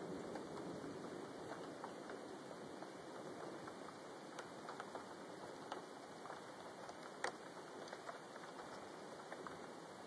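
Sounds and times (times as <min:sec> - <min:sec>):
rain hissing: 0:00.0 - 0:10.0
raindrops ticking: 0:00.0 - 0:10.0.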